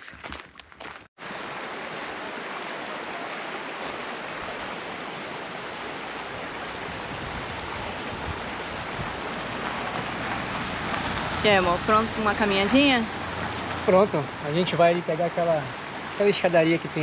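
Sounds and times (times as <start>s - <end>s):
flowing water rushing: 1.2s - 17.0s.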